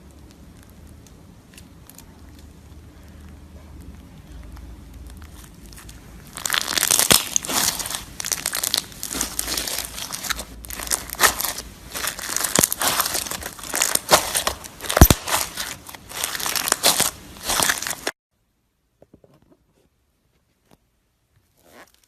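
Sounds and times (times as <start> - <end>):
slime crackling and crunching: 0.0 - 18.2.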